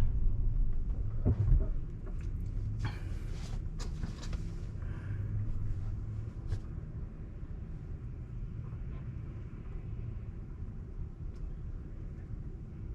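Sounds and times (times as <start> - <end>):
road and tyre rumble in car cabin: 0.0 - 12.9.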